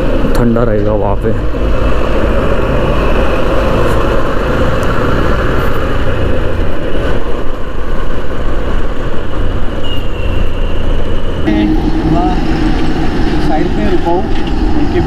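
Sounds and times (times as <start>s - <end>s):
motorcycle engine: 0.0s - 15.0s
road noise: 0.0s - 15.0s
wind rushing over microphone: 0.0s - 15.0s.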